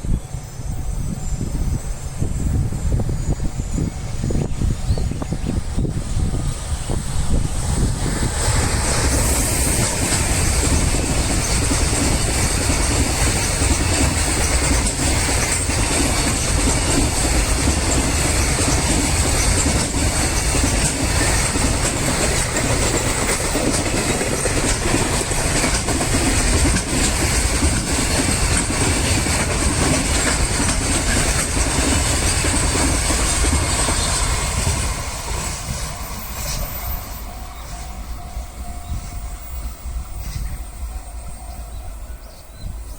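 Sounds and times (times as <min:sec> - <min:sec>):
train wheels clattering over joints: 0:02.4 - 0:40.8.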